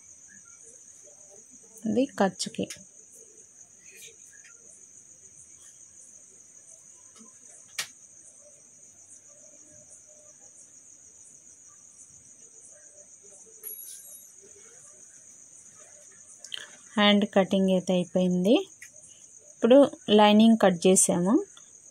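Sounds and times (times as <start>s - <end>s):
crickets chirring: 0.0s - 21.9s.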